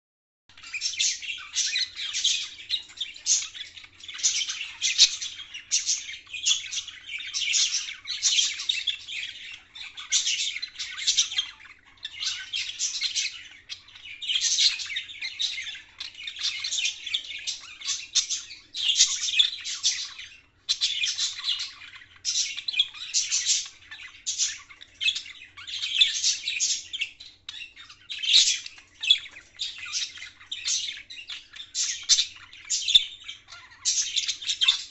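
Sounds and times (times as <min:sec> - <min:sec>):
budgerigar chirping and warbling: 0:00.6 - 0:34.9.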